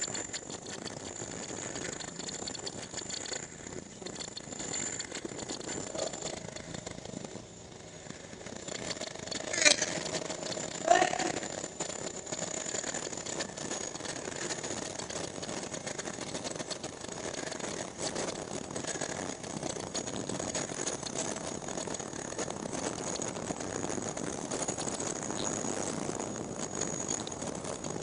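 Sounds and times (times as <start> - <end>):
high machine whine: 0.0 - 28.0
machine fast mechanical rattle: 0.0 - 28.0.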